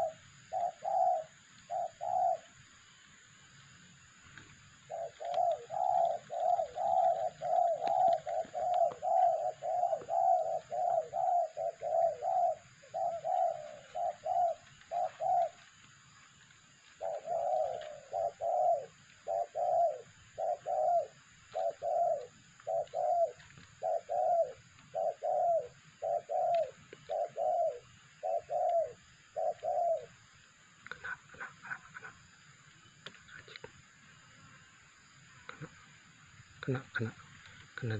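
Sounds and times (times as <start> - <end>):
dove cooing: 0.0 - 2.7, 4.2 - 32.4.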